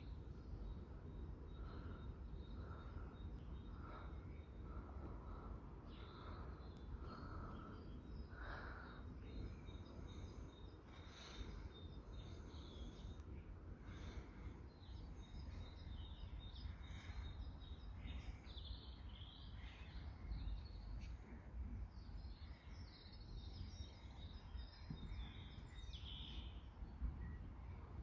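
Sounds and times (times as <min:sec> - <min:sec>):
garden birds chirping: 0:00.0 - 0:28.0
low wind rumble: 0:00.0 - 0:28.0.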